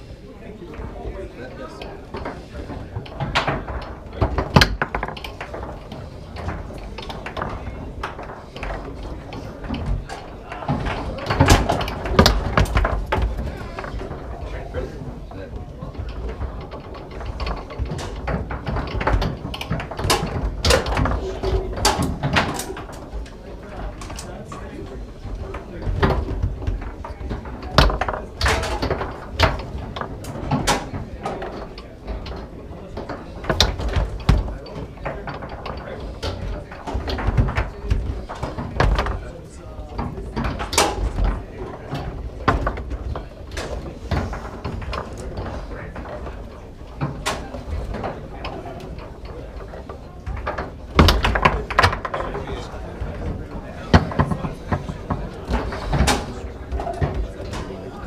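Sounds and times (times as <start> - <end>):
foosball clacking off plastic men: 0.7 - 58.0
rods sliding and banging: 0.9 - 58.0.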